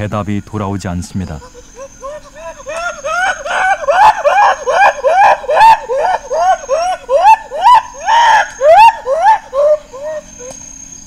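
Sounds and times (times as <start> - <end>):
baby gorilla crying: 1.3 - 10.6.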